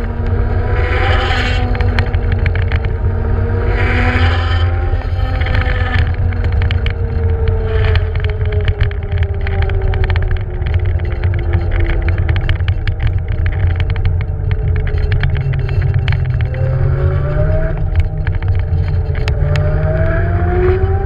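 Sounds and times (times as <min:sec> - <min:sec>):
wind and road rumble: 0:00.0 - 0:21.0.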